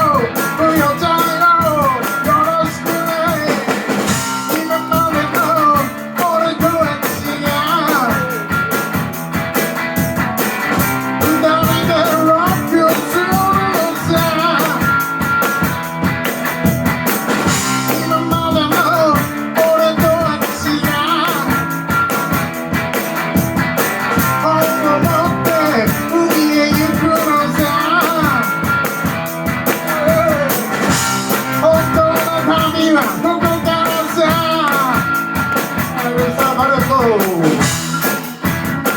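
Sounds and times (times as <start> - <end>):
drum kit beat: 0.0 - 38.9
rock band playing: 0.0 - 38.9.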